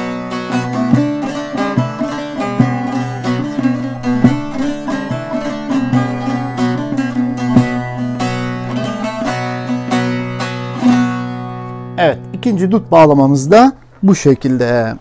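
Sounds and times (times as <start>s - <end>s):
plucked lute folk melody: 0.0s - 14.6s.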